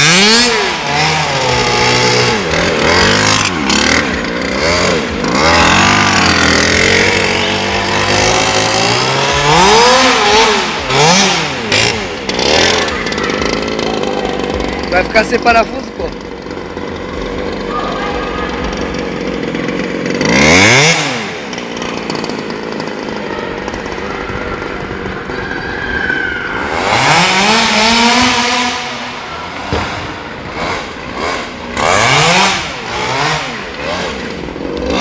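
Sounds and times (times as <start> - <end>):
small two-stroke engine revving: 0.0 - 35.0.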